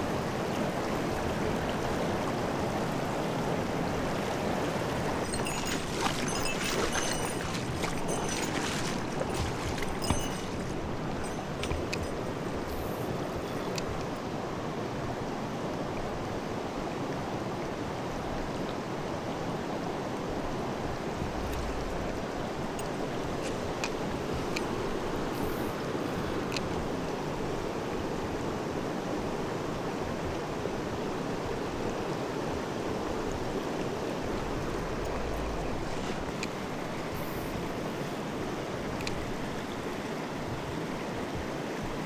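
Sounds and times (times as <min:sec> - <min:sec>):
stream rushing over stones: 0:00.0 - 0:42.0.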